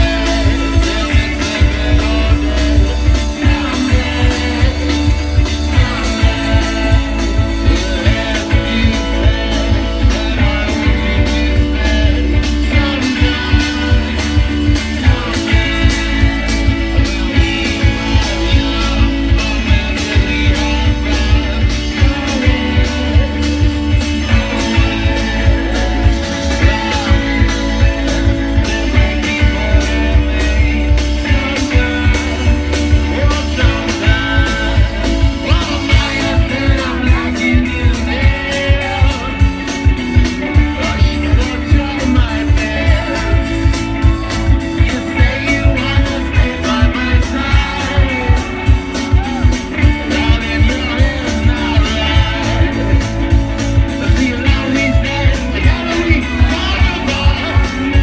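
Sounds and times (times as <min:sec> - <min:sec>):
bass guitar: 0:00.0 - 0:58.0
drums keeping a steady beat: 0:00.0 - 0:58.0
electric guitars: 0:00.0 - 0:58.0
person singing: 0:00.0 - 0:58.0.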